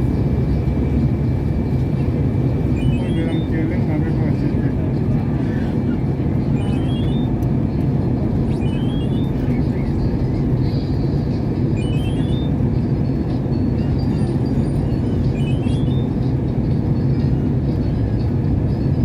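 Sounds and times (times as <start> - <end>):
airliner engines rumbling in cabin: 0.0 - 19.0.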